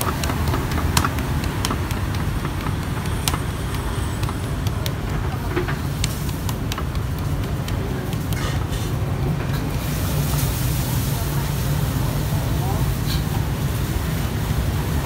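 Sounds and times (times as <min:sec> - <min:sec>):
bread frying in hot oil: 0:00.0 - 0:15.0
road traffic rumble: 0:00.0 - 0:15.0.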